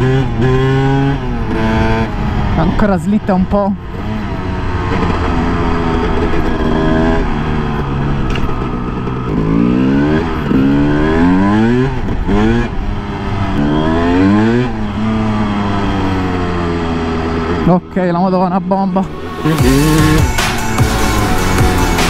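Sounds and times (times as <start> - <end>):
motocross engine revving: 0.0 - 22.0.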